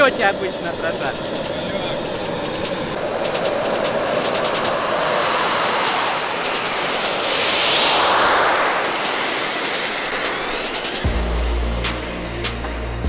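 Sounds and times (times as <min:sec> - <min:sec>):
model jet engine roaring: 0:00.0 - 0:13.0.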